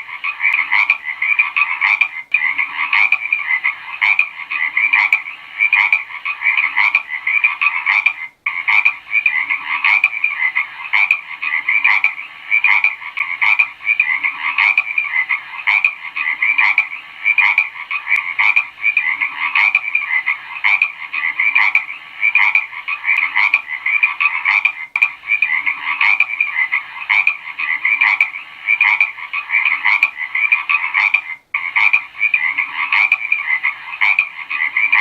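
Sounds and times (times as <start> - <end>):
frogs croaking: 0.0 - 35.0.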